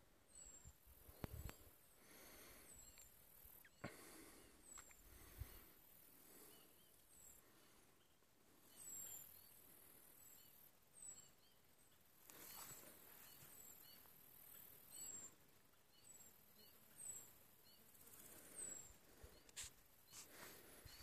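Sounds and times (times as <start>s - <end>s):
bird chirping: 0.3s - 5.6s, 6.3s - 21.0s.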